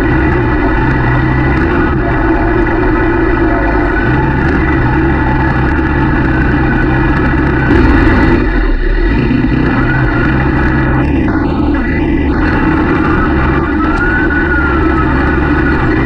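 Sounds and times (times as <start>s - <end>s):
loud burst of noise: 0.0s - 16.0s
quad bike engine running: 0.0s - 16.0s.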